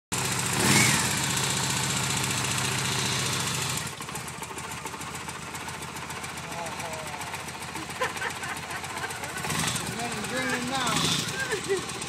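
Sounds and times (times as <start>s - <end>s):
motorcycle engine idling: 0.2s - 12.0s.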